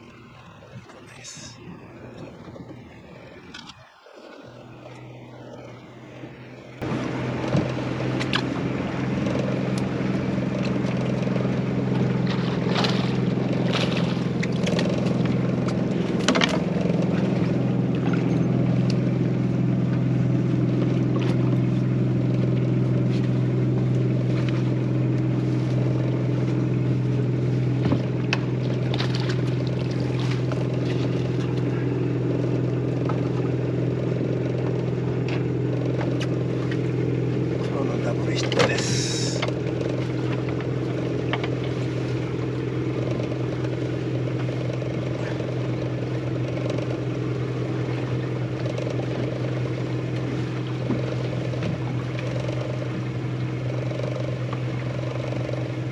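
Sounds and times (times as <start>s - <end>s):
outboard motor running: 0.0s - 55.9s.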